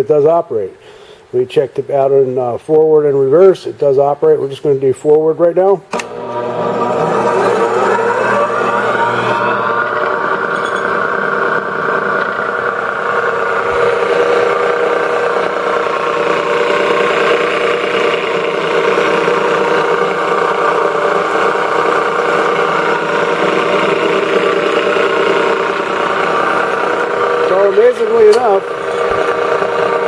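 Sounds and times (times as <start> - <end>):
electric motor humming: 5.9 - 30.0.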